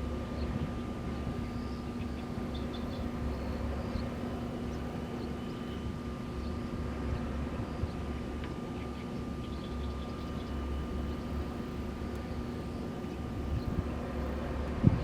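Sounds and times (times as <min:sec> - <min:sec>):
wind turbines humming: 0:00.0 - 0:15.0.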